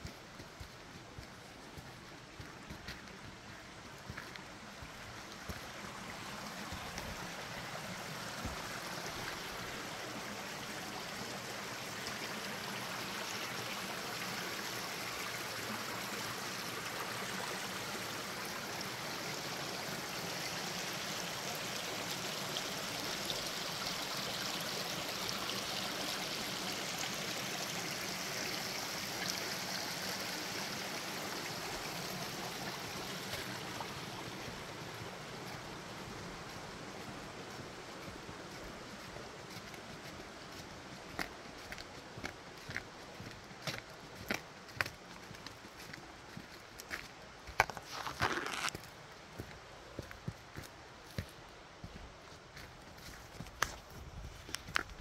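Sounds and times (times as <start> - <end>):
creek rushing: 0.0 - 54.8.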